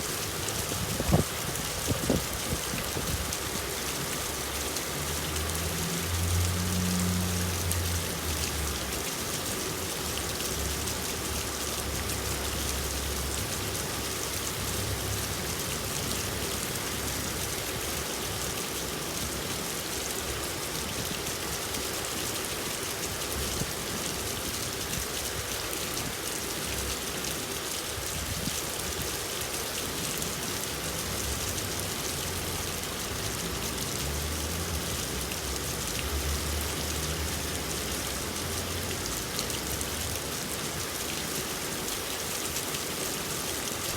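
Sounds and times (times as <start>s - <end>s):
steady rain pattering: 0.0s - 43.9s.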